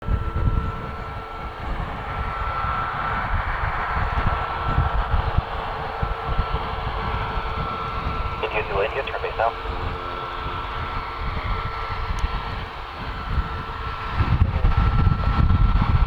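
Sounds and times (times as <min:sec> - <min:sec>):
jet engines whining: 0:00.0 - 0:16.0
wind buffeting microphone: 0:00.0 - 0:16.0.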